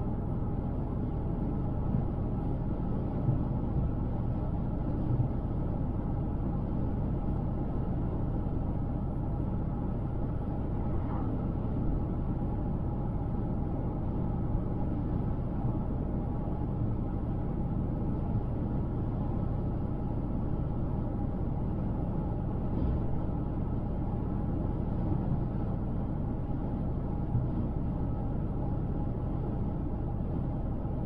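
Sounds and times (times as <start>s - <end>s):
car driving on highway: 0.0s - 31.0s.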